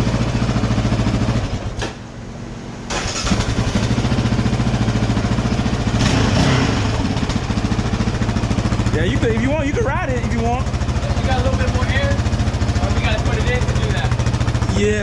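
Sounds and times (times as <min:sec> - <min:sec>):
atv engine idling: 0:00.0 - 0:02.2, 0:02.9 - 0:15.0.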